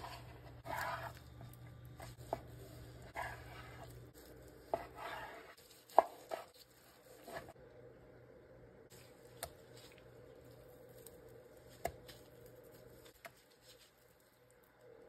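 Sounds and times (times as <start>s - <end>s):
soft squishes of handled meat: 0.0s - 7.6s, 8.9s - 15.0s
low steady hum: 0.0s - 15.0s.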